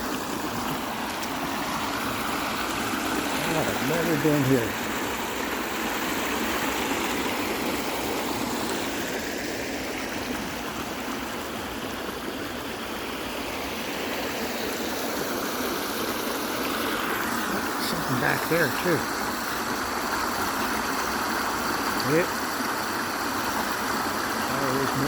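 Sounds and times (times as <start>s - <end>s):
water running over waterfall: 0.0s - 25.0s.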